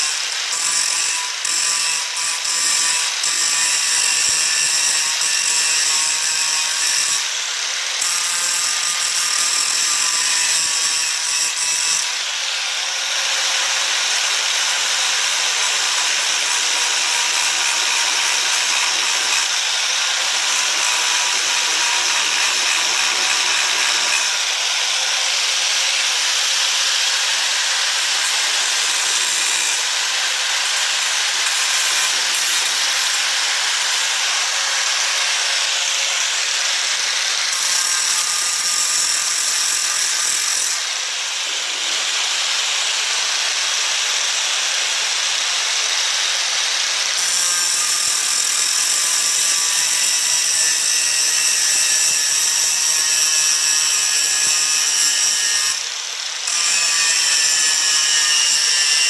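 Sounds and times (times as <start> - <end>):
power grinder grinding metal: 0.0 - 59.0.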